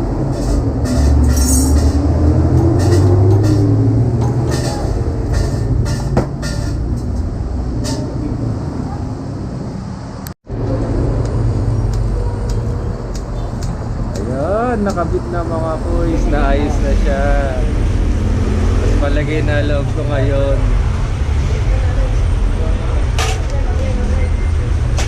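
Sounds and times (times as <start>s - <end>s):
heavy engines rumbling: 0.0s - 25.0s.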